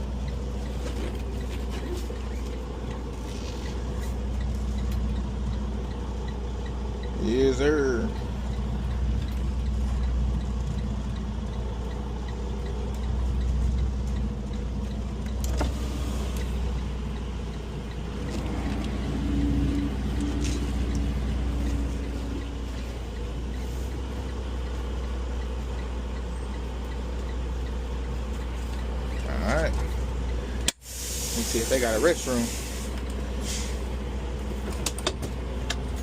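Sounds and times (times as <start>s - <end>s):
truck engine rumbling: 0.0s - 36.0s.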